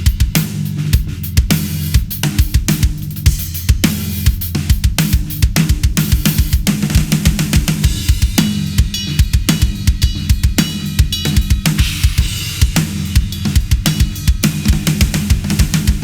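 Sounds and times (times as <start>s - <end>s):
cymbals: 0.0s - 16.0s
drum kit groove: 0.0s - 16.0s
kick drum: 0.0s - 16.0s.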